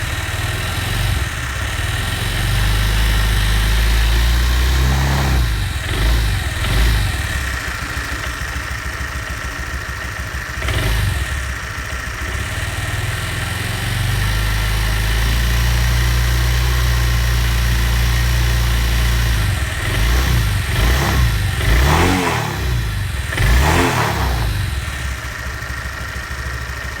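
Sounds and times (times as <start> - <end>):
scooter engine idling and revving: 0.0 - 27.0.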